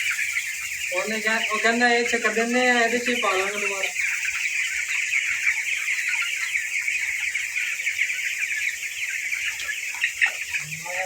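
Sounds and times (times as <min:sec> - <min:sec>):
flock of chickens calling: 0:00.0 - 0:11.0.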